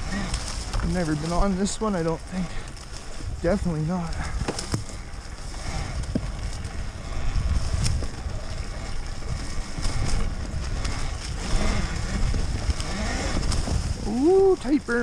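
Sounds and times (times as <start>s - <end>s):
electric dirt bike rumble: 0.0s - 15.0s.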